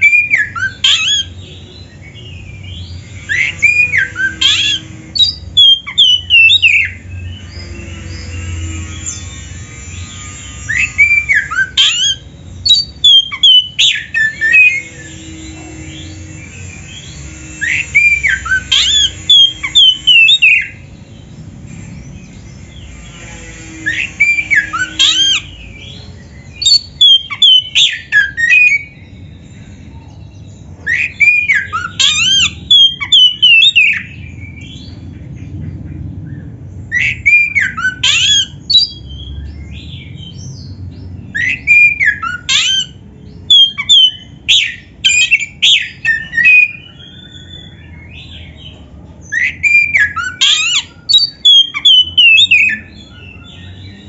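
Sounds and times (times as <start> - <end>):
bird singing loud whistles: 0.0 - 20.9, 21.7 - 35.0, 36.9 - 54.0.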